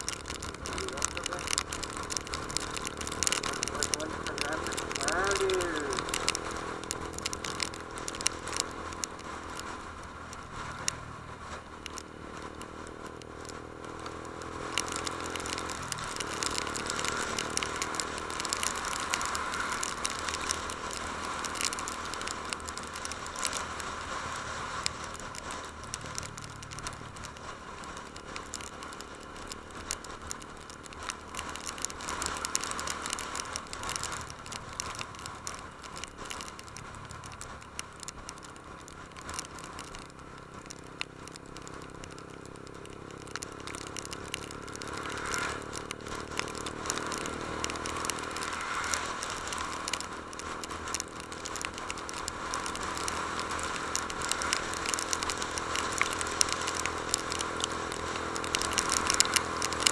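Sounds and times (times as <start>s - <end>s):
crackling clicks: 0.0s - 59.9s
motorcycle engine running: 0.0s - 59.9s.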